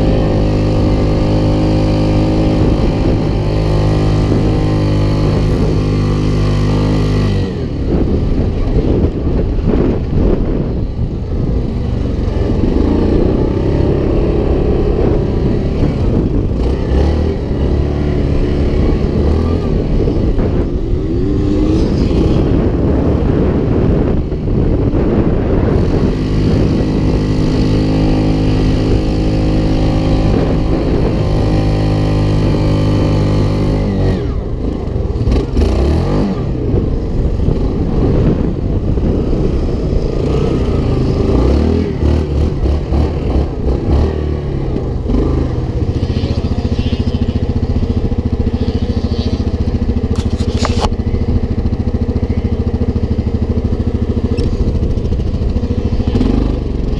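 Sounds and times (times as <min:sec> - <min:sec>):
off-road vehicle engine running: 0:00.0 - 0:56.9.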